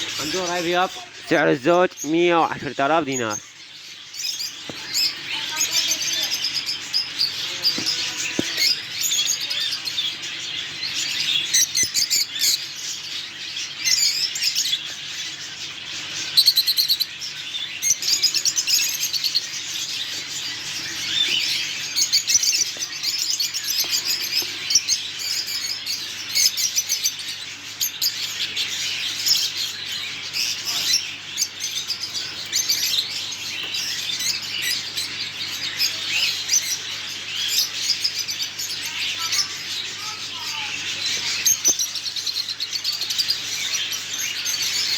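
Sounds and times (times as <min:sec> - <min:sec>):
caged birds chirping: 0:00.0 - 0:44.9.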